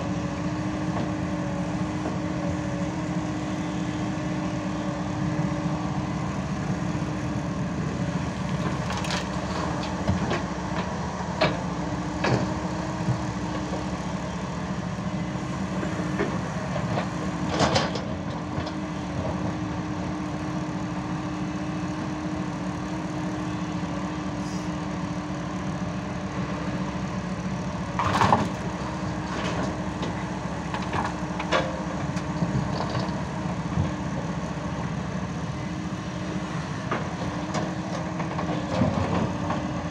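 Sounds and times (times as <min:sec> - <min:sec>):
diesel excavator engine humming: 0:00.0 - 0:39.9.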